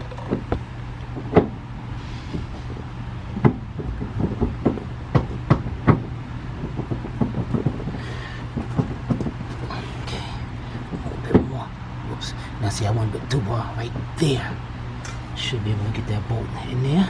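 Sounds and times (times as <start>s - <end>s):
metal clunks and knocks: 0.0s - 17.0s
steady low hum: 0.0s - 17.0s.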